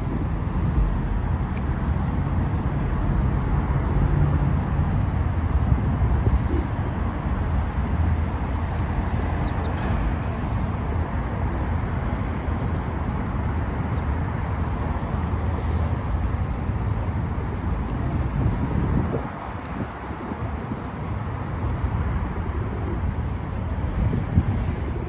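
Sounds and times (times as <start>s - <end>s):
low rumbling background noise: 0.0s - 25.0s.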